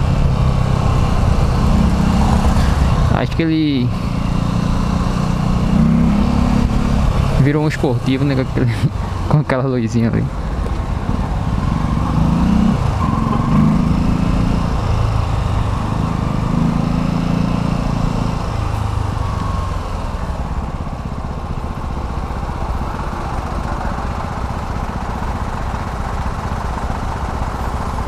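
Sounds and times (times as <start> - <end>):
road and wind noise: 0.0 - 28.0
vehicle engine humming: 0.0 - 28.0.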